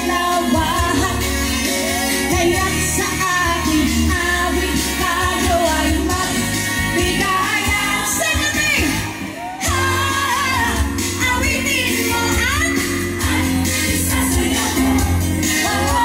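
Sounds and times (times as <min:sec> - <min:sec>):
band playing through pa: 0:00.0 - 0:16.0
woman singing into a microphone: 0:00.0 - 0:16.0.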